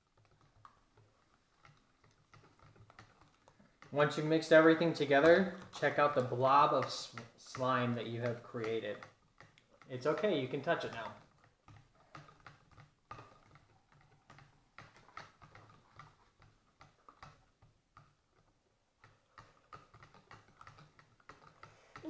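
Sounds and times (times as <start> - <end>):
spoons stirring slime in cups: 0.0 - 22.0.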